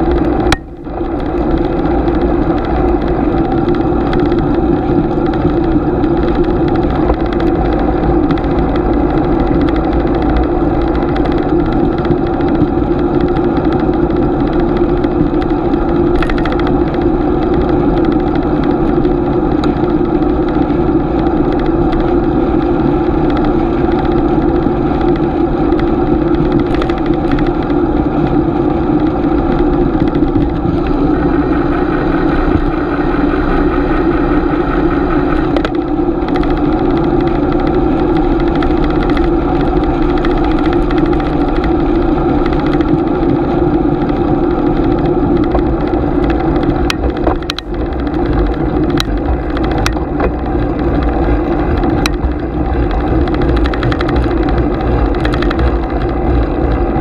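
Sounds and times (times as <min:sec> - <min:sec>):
bicycle road noise: 0:00.0 - 0:57.0
rushing wind: 0:00.0 - 0:57.0
wind buffeting microphone: 0:00.0 - 0:57.0.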